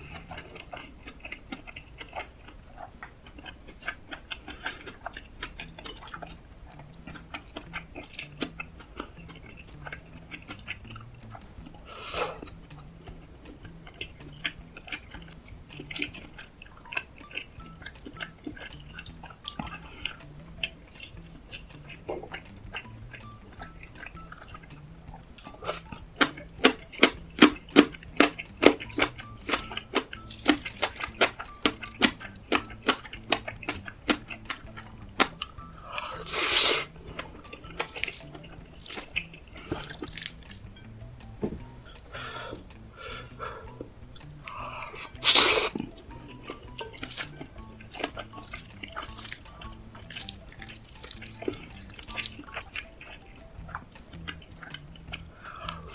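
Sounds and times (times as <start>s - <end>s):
close chewing and mouth sounds: 0.0s - 55.9s.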